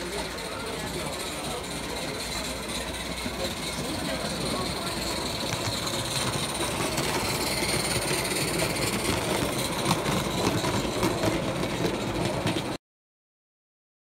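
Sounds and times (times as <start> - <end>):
model steam locomotive running: 0.0 - 12.8.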